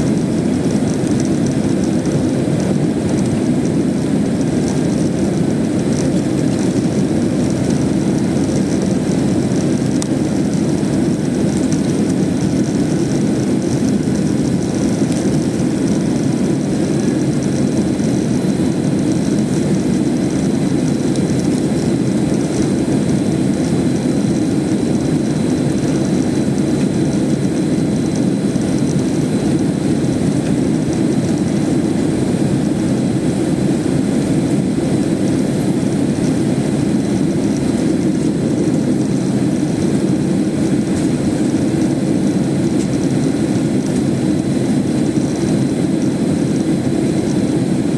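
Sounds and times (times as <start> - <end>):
jet engine rumble in airliner cabin: 0.0 - 47.9.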